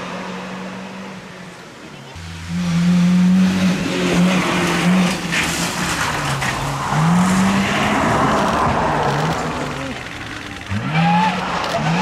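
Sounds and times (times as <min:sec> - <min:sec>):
tyre noise on wet road: 0:01.6 - 0:12.0
van engine under load: 0:02.0 - 0:12.0.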